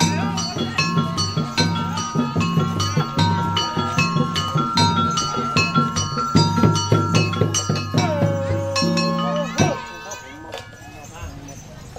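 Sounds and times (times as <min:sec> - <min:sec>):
low drum beat: 0:00.0 - 0:10.1
ringing struck metal notes: 0:00.0 - 0:11.9.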